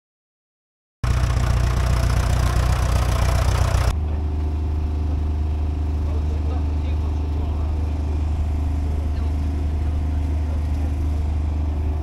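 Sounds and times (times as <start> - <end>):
tractor engine running: 1.0 - 12.0.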